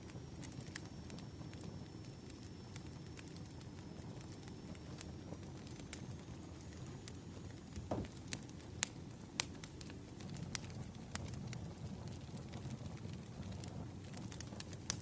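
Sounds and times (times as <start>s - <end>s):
fire low rumble: 0.0s - 15.0s
wood fire popping: 0.0s - 15.0s.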